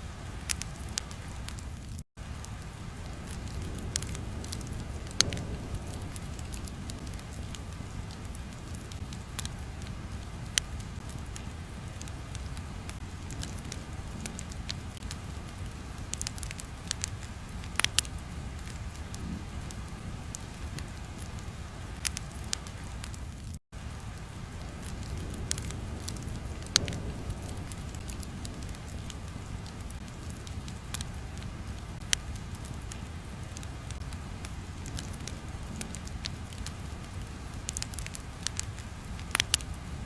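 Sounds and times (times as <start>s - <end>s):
fire crackling: 0.0s - 40.0s
fire pops and snaps: 0.2s - 40.0s
low rumble: 2.2s - 22.4s, 24.4s - 38.4s.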